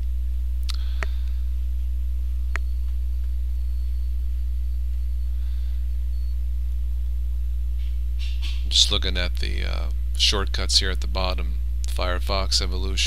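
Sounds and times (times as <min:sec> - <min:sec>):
low electrical mains hum: 0:00.0 - 0:13.0.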